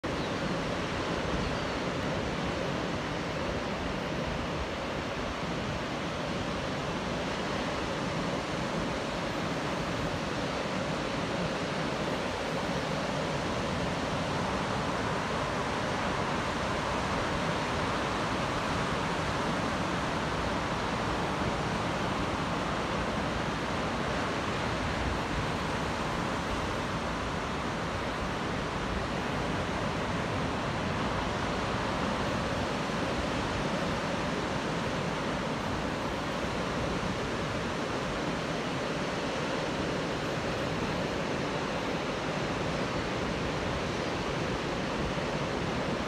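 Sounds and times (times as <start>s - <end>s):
ocean surf on a beach: 0.0s - 46.0s.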